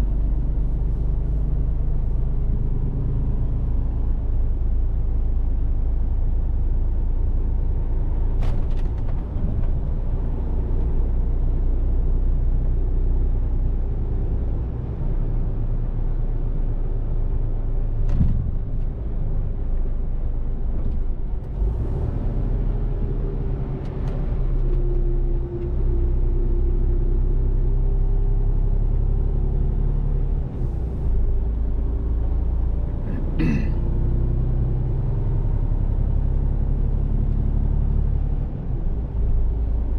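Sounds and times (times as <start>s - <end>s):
truck diesel rumble: 0.0s - 39.9s.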